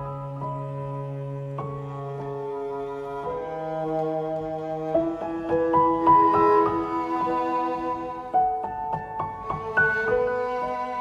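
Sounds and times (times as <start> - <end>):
soft piano background music: 0.0 - 11.0.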